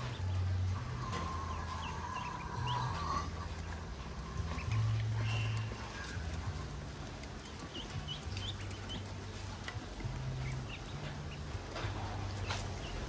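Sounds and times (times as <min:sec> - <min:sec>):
bills pecking in metal basin: 0:00.0 - 0:13.0
ducklings peeping: 0:00.0 - 0:13.0
low hum: 0:00.0 - 0:13.0.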